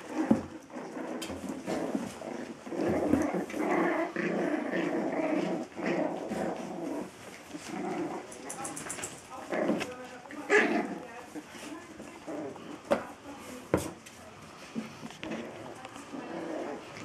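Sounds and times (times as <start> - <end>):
puppies growling in play: 0.0 - 13.0, 13.6 - 17.0.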